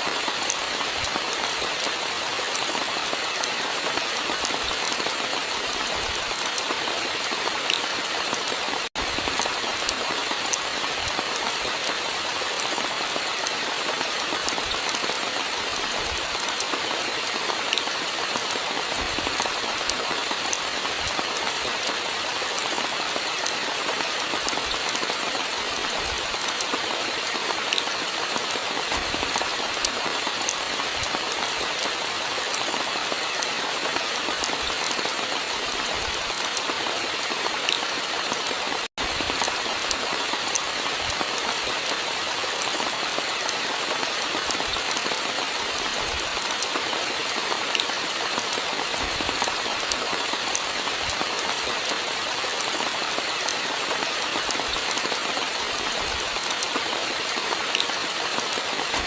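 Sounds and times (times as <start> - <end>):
rain drops tapping: 0.0 - 59.0
steady rain hiss: 0.0 - 59.0.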